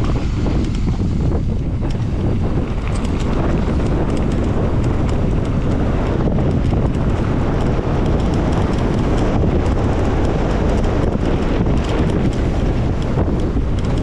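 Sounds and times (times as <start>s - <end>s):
bike tyres rattling on dirt: 0.0s - 14.0s
wind buffeting microphone: 0.0s - 14.0s.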